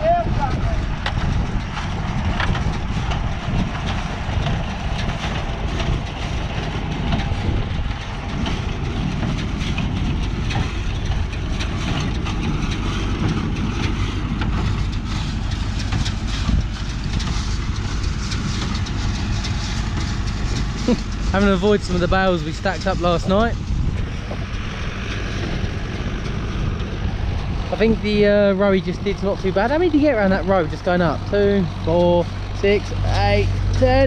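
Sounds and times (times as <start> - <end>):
machinery rattling and clatter: 0.0 - 34.0
tractor engine running: 0.0 - 34.0.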